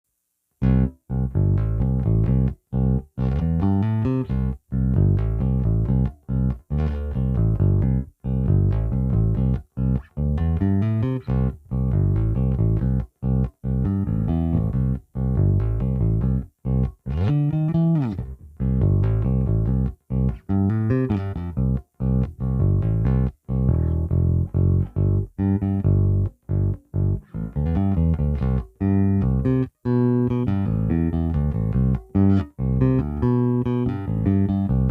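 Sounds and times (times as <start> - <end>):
bass guitar plucked notes: 0.6 - 34.9.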